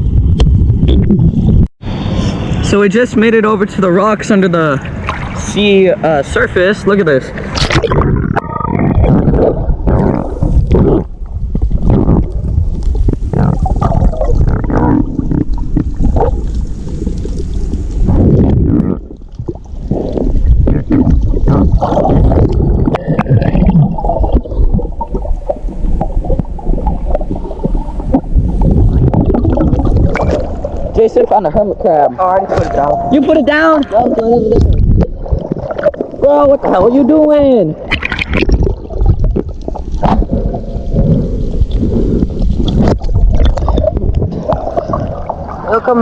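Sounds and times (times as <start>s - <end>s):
underwater knocks and gurgles: 0.0s - 1.7s, 7.4s - 31.3s, 32.4s - 46.0s
muffled underwater water wash: 0.0s - 46.0s.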